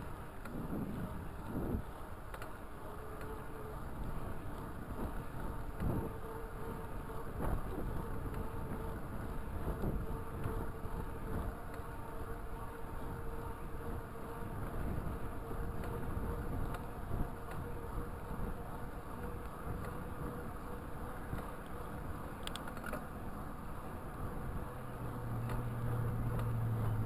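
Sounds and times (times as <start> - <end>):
bike tyres humming on pavement: 0.0 - 27.0
road and wind rumble: 0.0 - 27.0.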